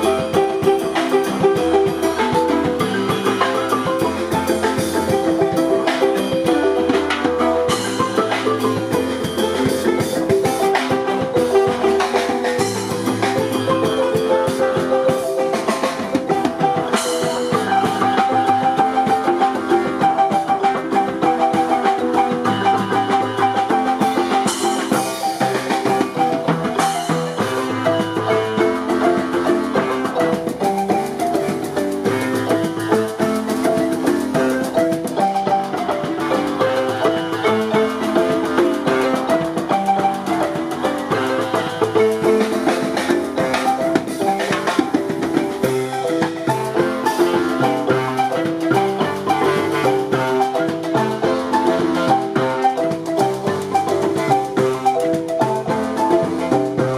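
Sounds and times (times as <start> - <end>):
drum kit and cymbals: 0.0 - 56.9
marimbas played with mallets: 0.0 - 56.9.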